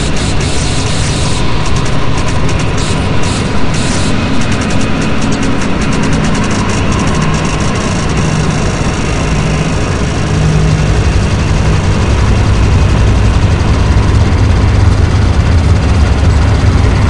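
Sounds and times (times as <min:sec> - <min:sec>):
low droning rumble: 0:00.0 - 0:17.0
noisy electronic sound design: 0:00.0 - 0:17.0.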